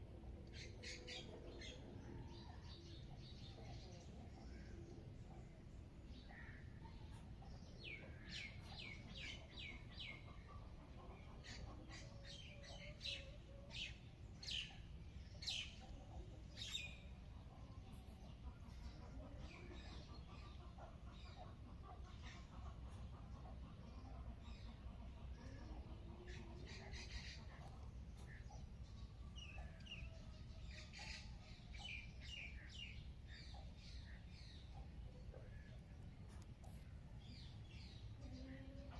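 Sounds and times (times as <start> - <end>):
small birds chirping: 0.4 - 38.9.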